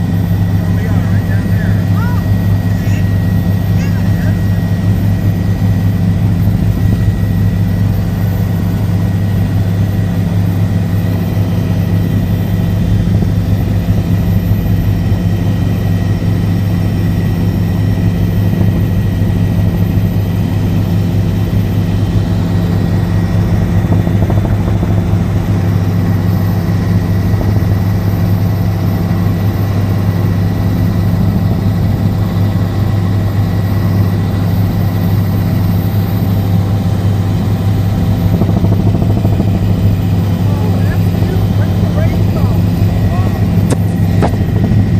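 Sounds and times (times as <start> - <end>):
helicopter drone: 0.0 - 44.9.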